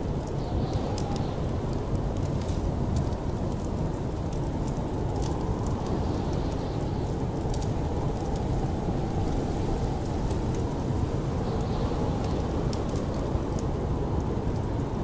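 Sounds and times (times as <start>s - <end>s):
snowstorm wind rumble: 0.0s - 15.0s
wood fire crackling: 0.0s - 15.0s.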